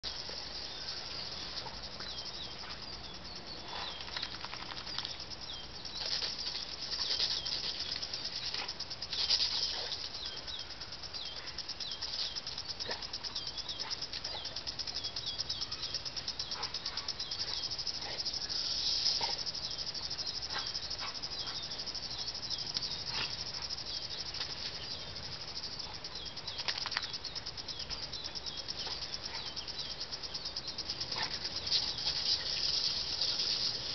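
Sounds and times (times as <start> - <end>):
lawn sprinkler spraying water: 4.1 - 33.9.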